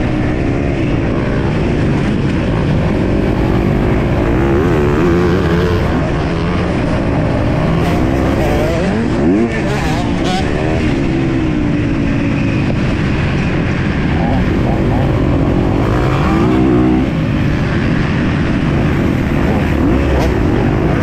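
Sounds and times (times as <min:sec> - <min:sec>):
motocross bike engine revving: 0:00.0 - 0:11.4, 0:13.6 - 0:18.2, 0:18.8 - 0:21.0
steady rushing noise: 0:00.0 - 0:21.0.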